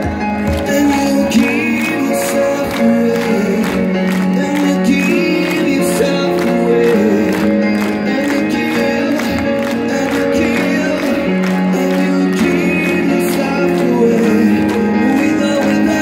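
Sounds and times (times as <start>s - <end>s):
live amplified band music: 0.0s - 16.0s
man singing through sound system: 0.0s - 16.0s.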